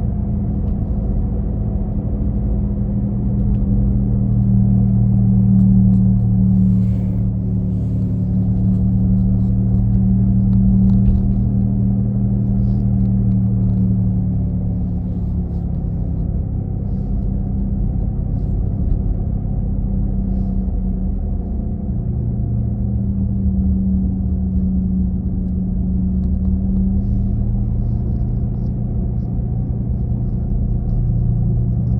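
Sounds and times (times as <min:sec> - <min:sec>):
low humming drone from car: 0:00.0 - 0:31.9
road rumble: 0:00.0 - 0:31.9.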